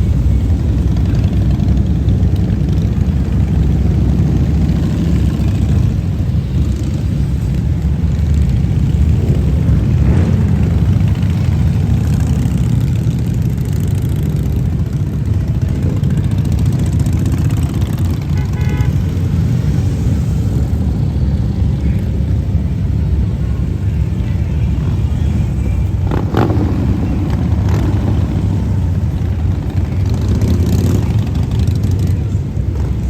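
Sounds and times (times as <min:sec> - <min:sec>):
vehicle engines rumbling: 0:00.0 - 0:33.0.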